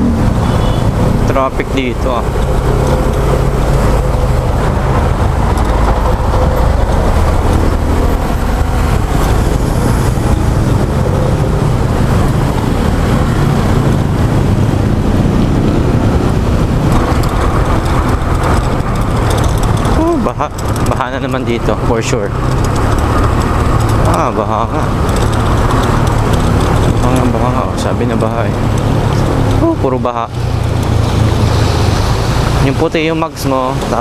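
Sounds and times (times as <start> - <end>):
heavy rushing noise: 0.0 - 34.0
scooter engine drone: 0.0 - 34.0.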